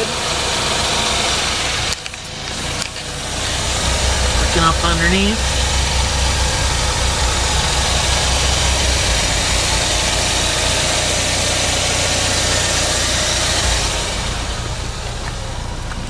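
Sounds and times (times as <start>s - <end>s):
car engine idling: 0.0s - 16.0s
rushing hiss: 0.0s - 16.0s.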